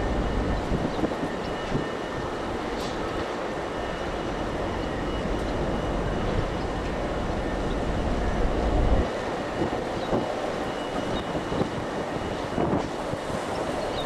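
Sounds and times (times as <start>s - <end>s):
steady rushing background: 0.0s - 14.0s
wind buffeting microphone: 0.0s - 14.0s.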